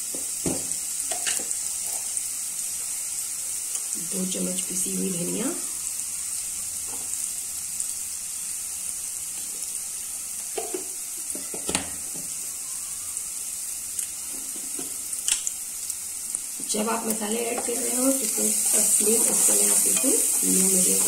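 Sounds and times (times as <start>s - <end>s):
masala sizzling in oil: 0.0s - 21.0s.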